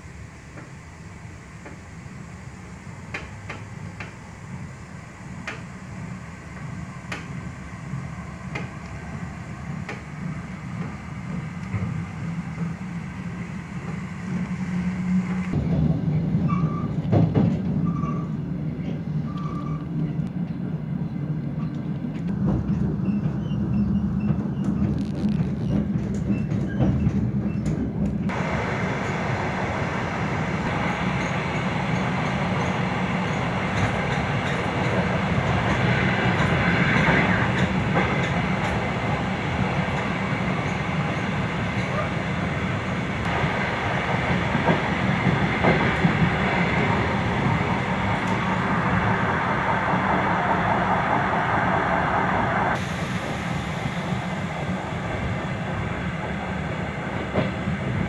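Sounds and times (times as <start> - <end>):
train engine and wheels on rails: 0.0 - 58.0.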